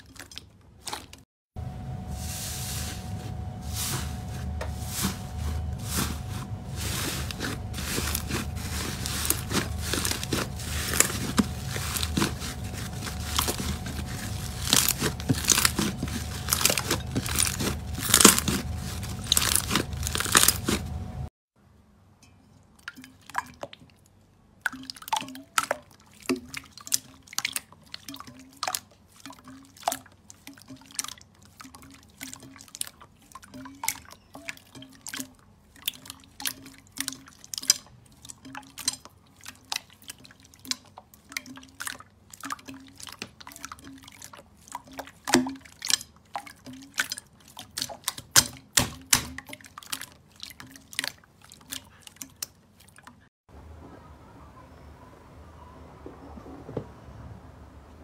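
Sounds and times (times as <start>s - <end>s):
wet slime squelching: 0.0s - 1.3s, 2.3s - 21.3s, 22.8s - 53.3s.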